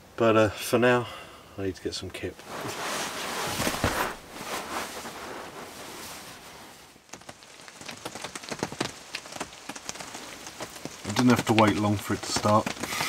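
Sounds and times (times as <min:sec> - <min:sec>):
rain hissing on cardboard: 0:02.4 - 0:13.0.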